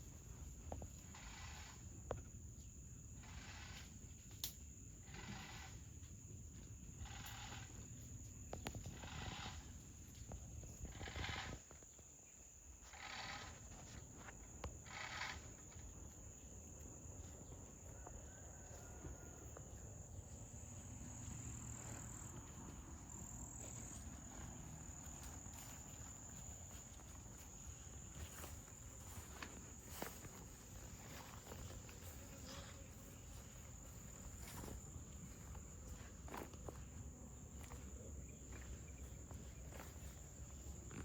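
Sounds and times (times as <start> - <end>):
high-pitched insect trill: 0.0 - 41.0.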